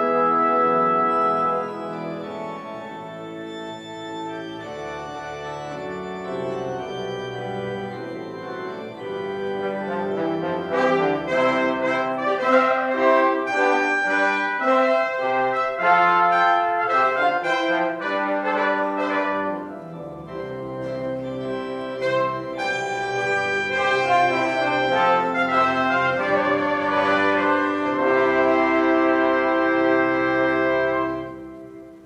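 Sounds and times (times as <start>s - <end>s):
slow brass chords: 0.0s - 4.8s, 5.7s - 32.0s.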